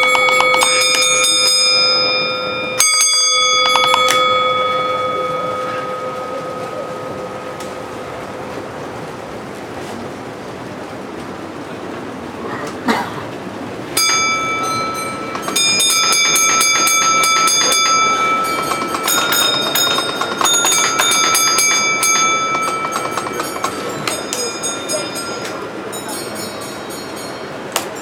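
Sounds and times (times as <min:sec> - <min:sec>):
bell ringing with rattling clatter: 0:00.0 - 0:09.0, 0:14.0 - 0:28.0.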